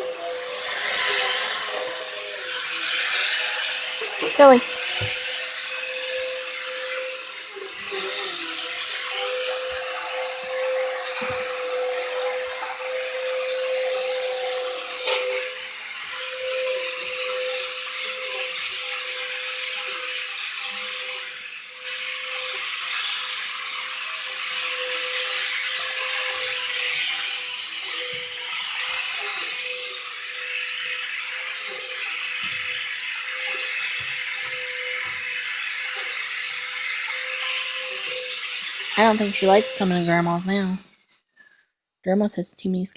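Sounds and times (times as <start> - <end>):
vacuum cleaner running: 0.0 - 40.8.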